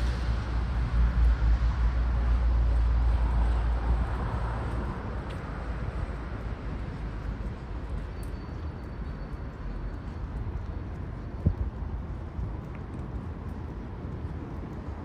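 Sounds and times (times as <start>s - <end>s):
passing vehicles rumble: 0.0s - 15.0s.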